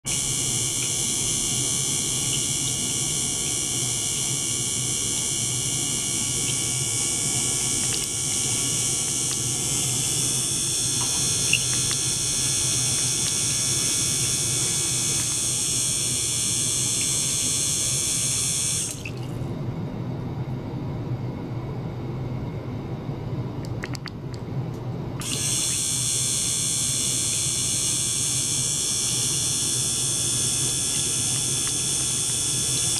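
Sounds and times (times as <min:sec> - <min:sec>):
high-pitched whine: 0:00.1 - 0:19.4, 0:25.2 - 0:32.9
low pump hum: 0:00.1 - 0:19.8, 0:23.7 - 0:32.9.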